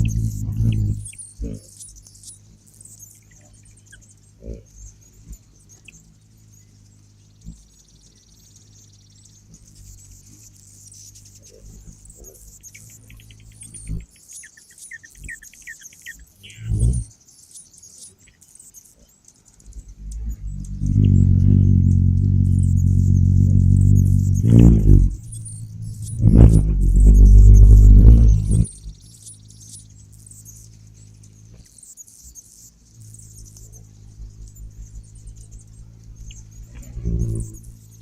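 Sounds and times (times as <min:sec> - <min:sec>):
low steady hum: 0:00.0 - 0:38.0
small birds chirping: 0:00.0 - 0:38.0.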